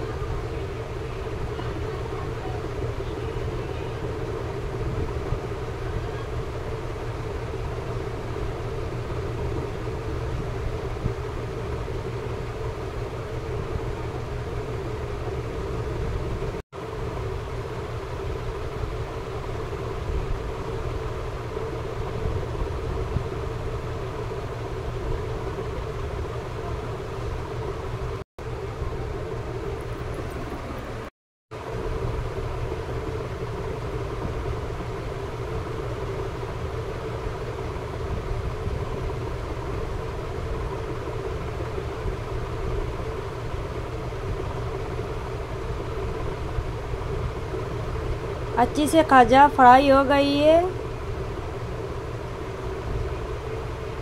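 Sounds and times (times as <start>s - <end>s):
constant low hum: 0.0s - 54.0s.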